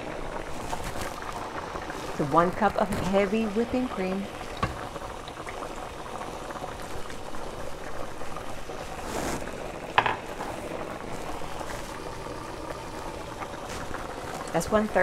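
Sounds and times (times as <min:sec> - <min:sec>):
water boiling with bubbling hiss: 0:00.0 - 0:15.0.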